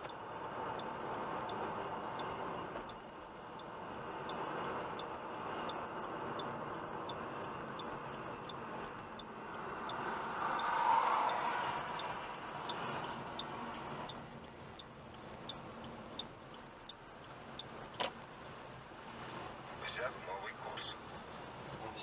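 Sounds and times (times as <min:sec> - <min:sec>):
turn signal clicking: 0:00.0 - 0:18.5
road and engine noise: 0:00.0 - 0:22.0.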